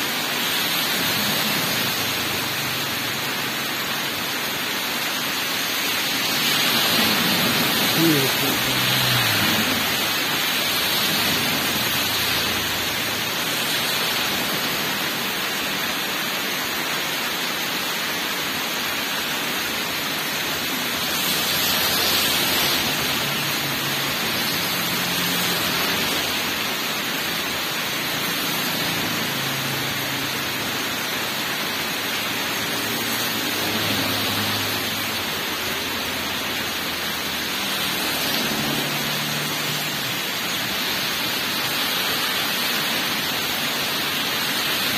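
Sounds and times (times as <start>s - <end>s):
heavy rain on wet road: 0.0s - 44.9s
car tyres swishing through water: 0.1s - 15.9s, 18.0s - 44.9s.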